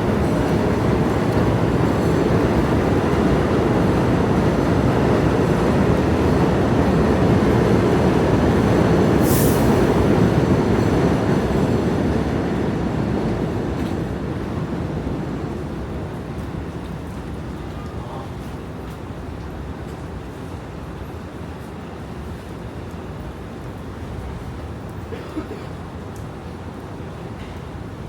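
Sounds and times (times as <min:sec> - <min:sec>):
subway train rumble: 0:00.0 - 0:28.0.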